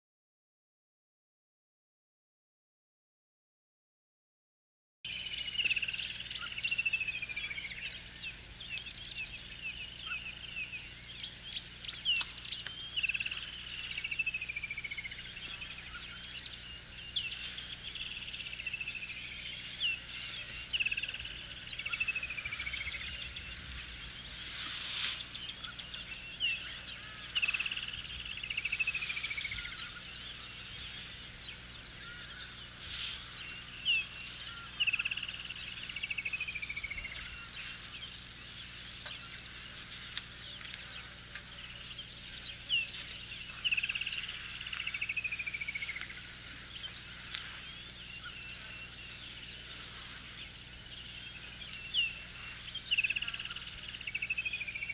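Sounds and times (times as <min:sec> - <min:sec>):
birds chirping and trilling: 0:05.1 - 0:54.9.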